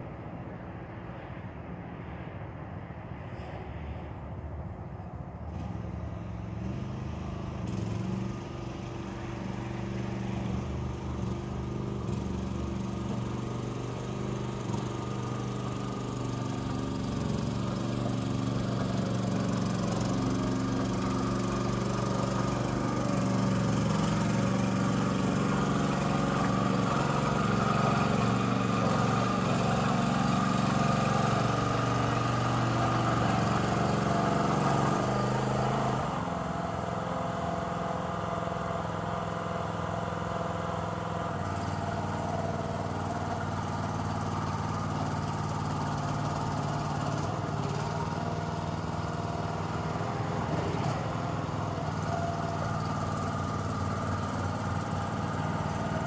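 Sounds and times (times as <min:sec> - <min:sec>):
small engine running: 0:05.5 - 0:56.0.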